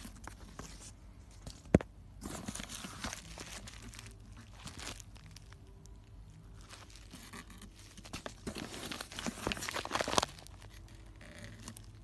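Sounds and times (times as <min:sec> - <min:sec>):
bubble wrap crackling: 0:02.2 - 0:12.0.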